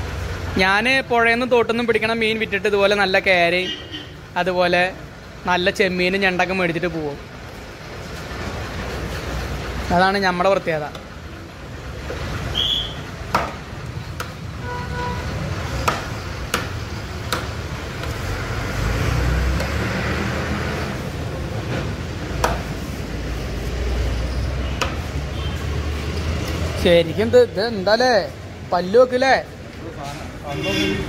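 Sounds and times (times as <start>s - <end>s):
low rumble of road traffic: 0.0s - 31.0s.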